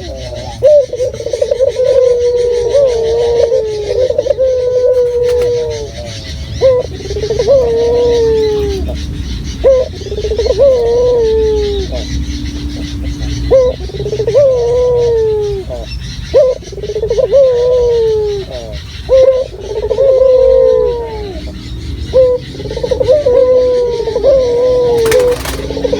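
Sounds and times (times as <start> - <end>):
dove cooing: 0.0 - 25.9.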